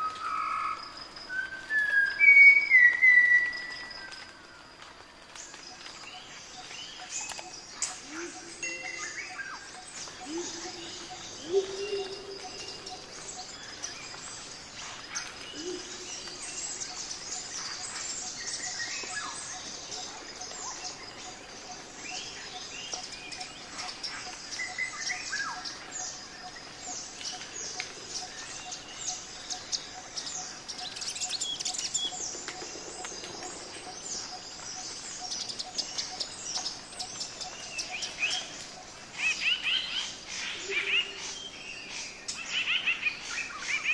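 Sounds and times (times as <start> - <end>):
birds chirping and calling: 5.8 - 43.9.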